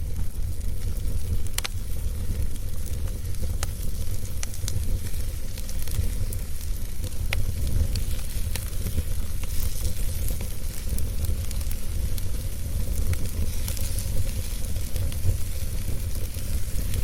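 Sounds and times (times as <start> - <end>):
fire crackling and popping: 0.0 - 17.0
fire rumbling and hissing: 0.0 - 17.0.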